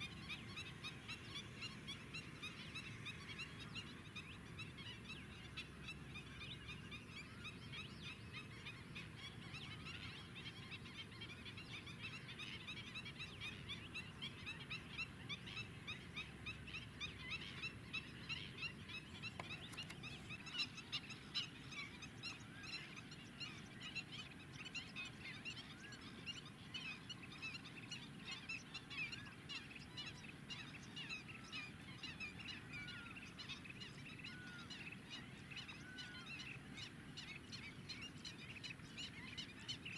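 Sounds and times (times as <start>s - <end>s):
flamingos calling: 0.0s - 39.9s.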